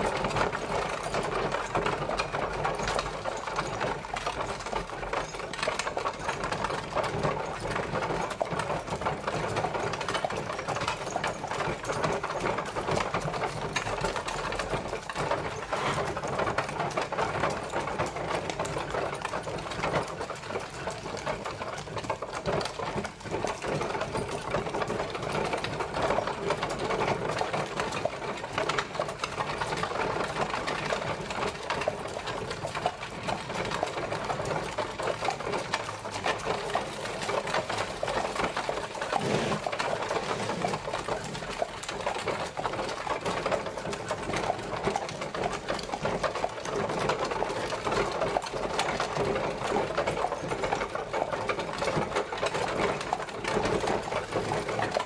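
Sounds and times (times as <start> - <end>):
carriage wheels rattling: 0.0 - 55.0.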